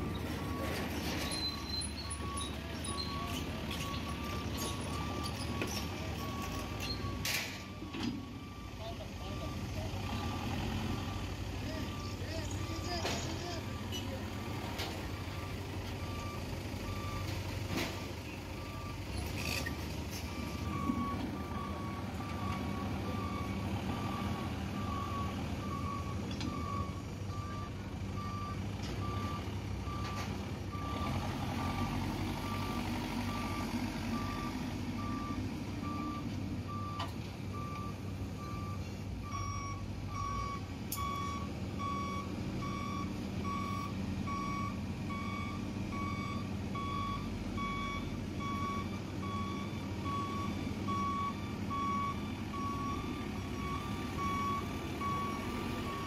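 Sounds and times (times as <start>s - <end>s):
diesel engine running: 0.0s - 56.0s
reversing alarm beeps: 0.4s - 9.6s, 18.0s - 56.0s.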